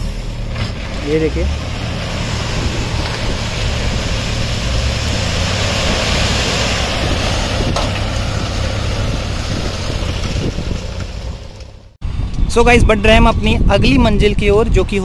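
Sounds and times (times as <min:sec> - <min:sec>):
heavy diesel engines running: 0:00.0 - 0:12.7.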